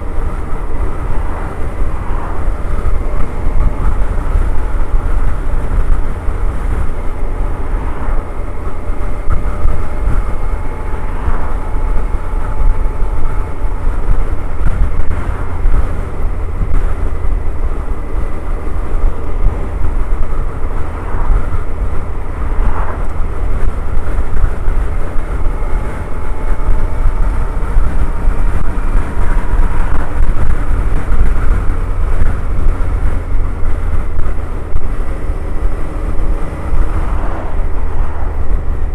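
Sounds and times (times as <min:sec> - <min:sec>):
motorcycle engine drone: 0:00.0 - 0:38.9
wind noise on microphone: 0:00.0 - 0:38.9.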